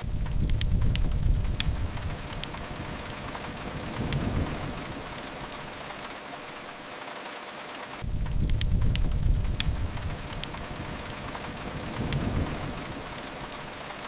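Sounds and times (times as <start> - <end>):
low rumble: 0.0 - 6.1, 8.0 - 14.0
rain hiss: 0.0 - 14.0
wood fire crackling: 0.0 - 14.0.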